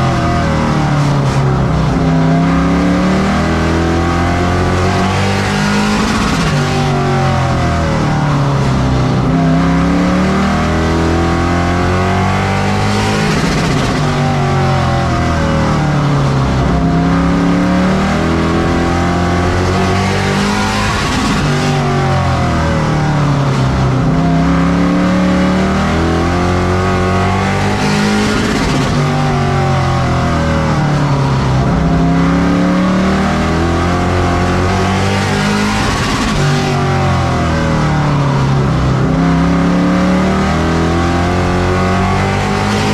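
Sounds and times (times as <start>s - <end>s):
racing truck engine: 0.0s - 42.9s
steady rushing noise: 0.0s - 42.9s.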